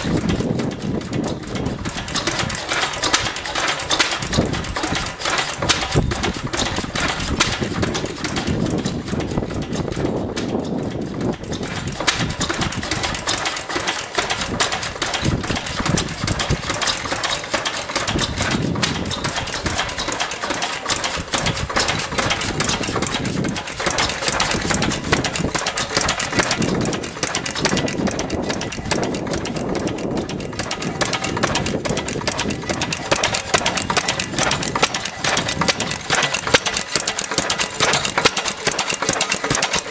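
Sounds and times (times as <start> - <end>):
stationary engines clattering: 0.0 - 39.9.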